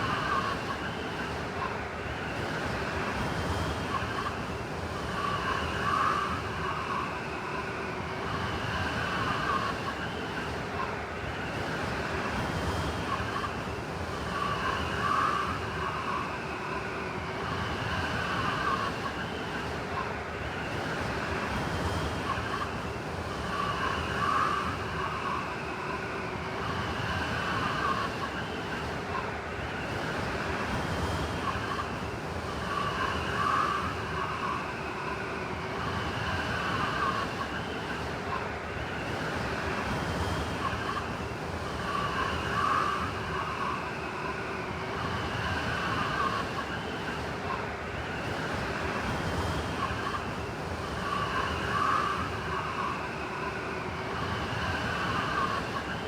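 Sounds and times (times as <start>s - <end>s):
blizzard wind howling: 0.0s - 56.0s.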